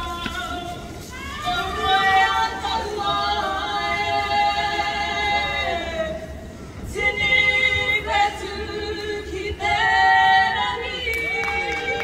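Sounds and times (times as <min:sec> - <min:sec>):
group singing in choir: 0:00.0 - 0:12.0.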